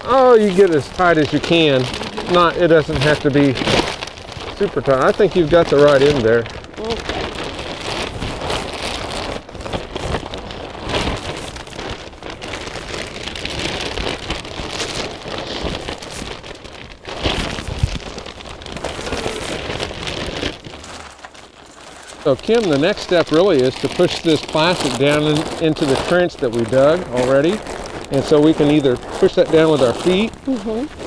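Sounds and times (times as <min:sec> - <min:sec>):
plastic sheeting rustling: 0:00.0 - 0:31.0.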